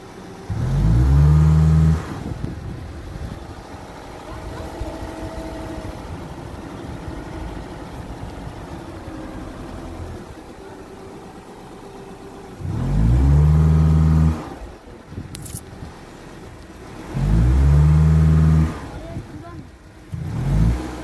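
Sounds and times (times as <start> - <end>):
car engine rumbling and revving: 0.0 - 21.0.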